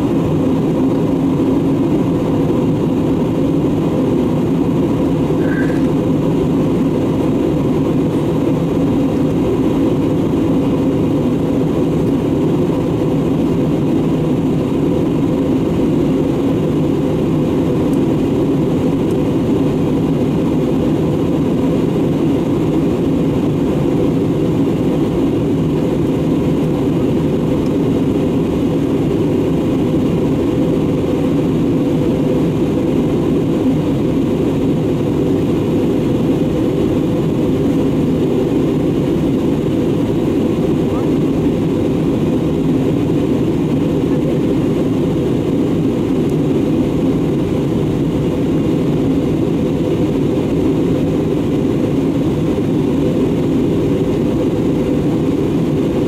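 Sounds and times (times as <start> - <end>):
airliner engine noise: 0.0 - 56.0.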